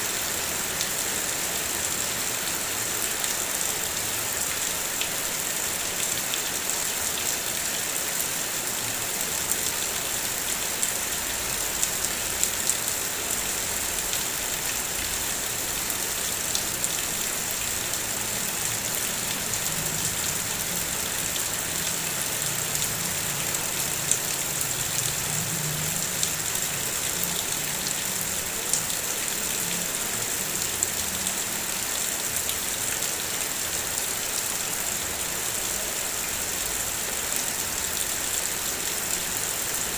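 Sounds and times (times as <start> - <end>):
heavy rain on a car: 0.1 - 39.9.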